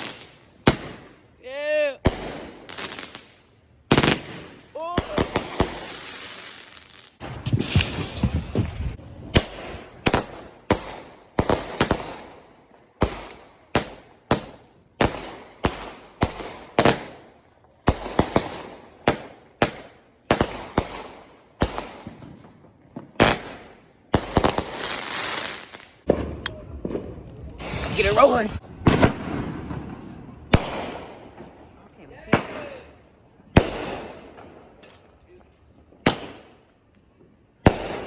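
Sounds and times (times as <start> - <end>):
fireworks bangs: 0.0 - 1.3, 2.0 - 3.3, 3.9 - 12.4, 13.0 - 35.2, 35.8 - 38.0.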